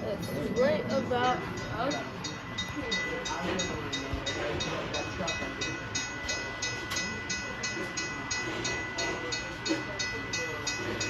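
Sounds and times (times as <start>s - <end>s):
electronic crossing bell ringing: 0.0s - 11.0s.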